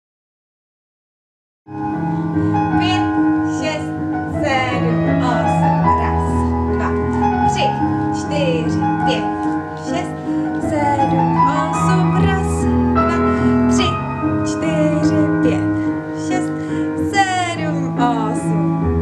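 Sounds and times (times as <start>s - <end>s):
piano music: 1.7s - 19.0s.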